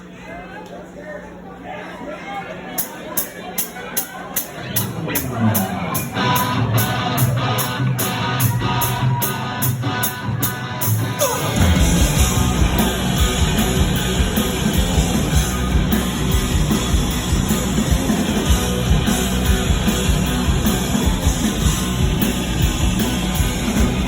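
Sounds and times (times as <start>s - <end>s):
live rock band: 4.4s - 24.0s
electric guitar pulses: 4.6s - 24.0s.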